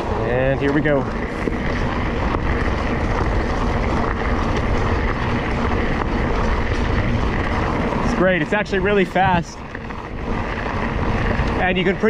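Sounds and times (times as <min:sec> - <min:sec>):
bike tyres rolling on dirt: 0:00.0 - 0:12.0
wind buffeting microphone: 0:00.0 - 0:12.0.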